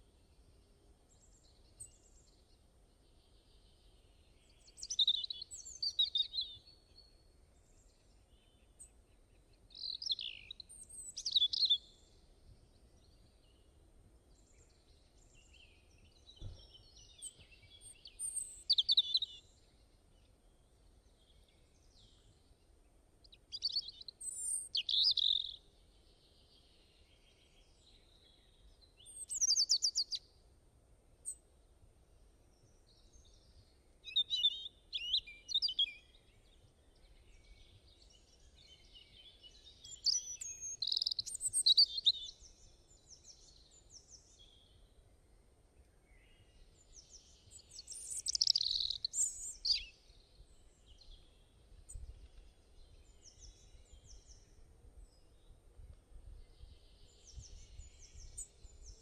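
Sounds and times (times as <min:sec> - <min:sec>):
faint low background hiss: 0:00.0 - 0:59.0
songbird chirps and trills: 0:00.0 - 0:59.0.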